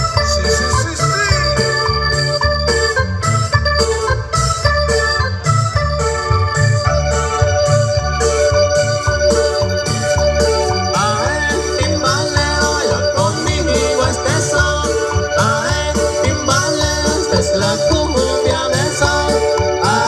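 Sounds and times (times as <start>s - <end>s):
bass line: 0.0s - 20.0s
organ-like keyboard melody: 0.0s - 20.0s.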